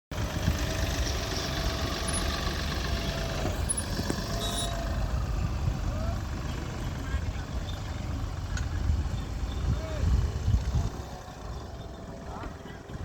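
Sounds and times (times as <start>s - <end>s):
vehicle engine and road rumble: 0.1s - 13.0s.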